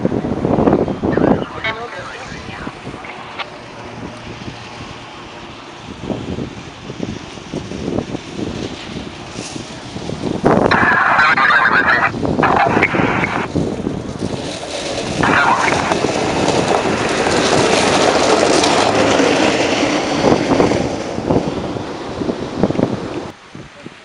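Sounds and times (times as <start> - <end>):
ambulance engine driving past: 0.1 - 23.3.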